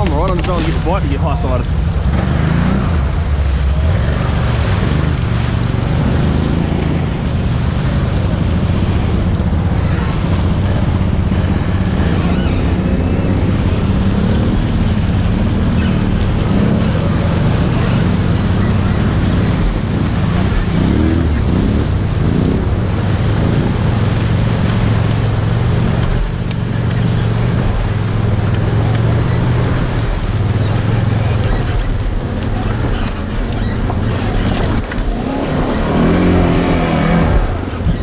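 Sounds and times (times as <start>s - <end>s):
quad bike engine running: 0.0s - 38.0s
water rushing and splashing: 0.0s - 38.0s.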